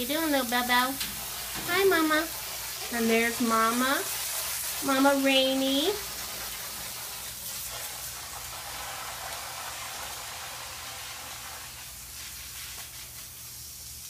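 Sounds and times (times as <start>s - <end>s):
water spraying hiss: 0.0s - 14.0s.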